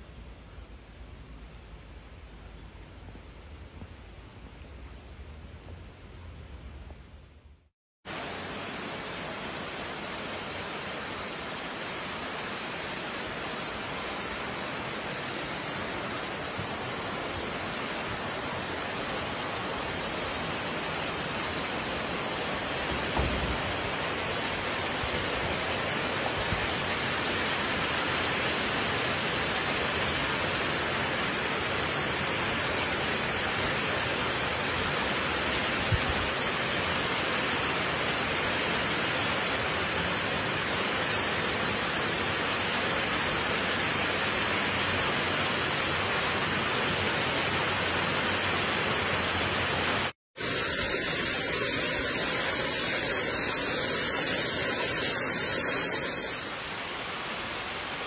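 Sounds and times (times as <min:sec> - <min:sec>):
waterfall rushing over rocks: 0:08.1 - 0:58.0.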